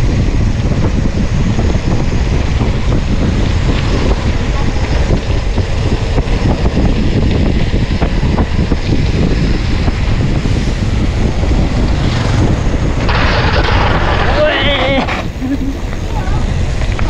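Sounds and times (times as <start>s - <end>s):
tyres rolling on rough concrete: 0.0s - 17.0s
wind buffeting microphone: 0.0s - 17.0s.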